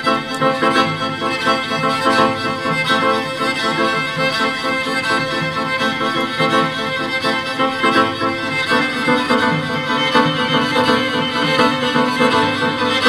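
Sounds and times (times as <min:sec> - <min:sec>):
cello: 0:00.0 - 0:13.0
violin: 0:00.0 - 0:13.0.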